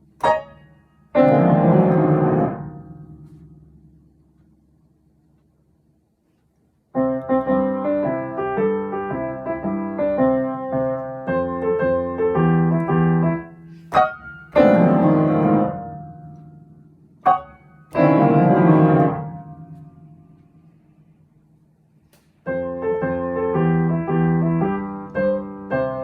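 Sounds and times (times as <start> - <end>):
light piano melody: 0.0 - 6.0, 6.6 - 26.0.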